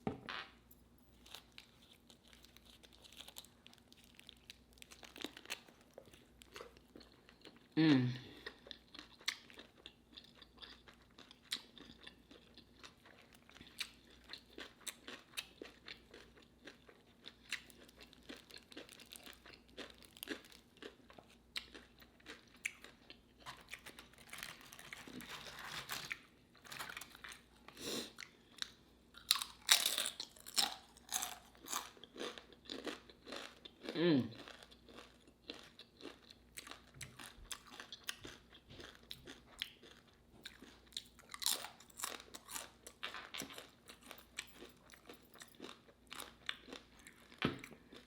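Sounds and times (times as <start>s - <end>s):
crunching pickles: 1.2s - 7.8s, 8.4s - 48.0s.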